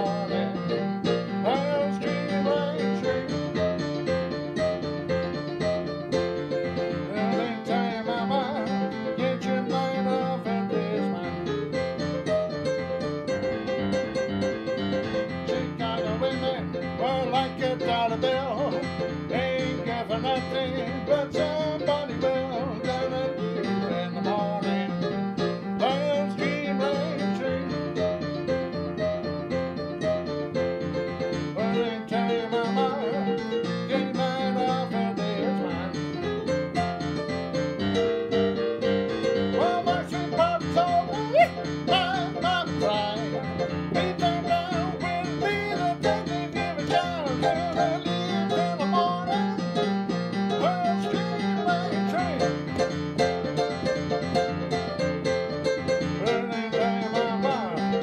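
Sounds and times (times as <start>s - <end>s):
upbeat electric keyboard piano: 0.0s - 58.0s.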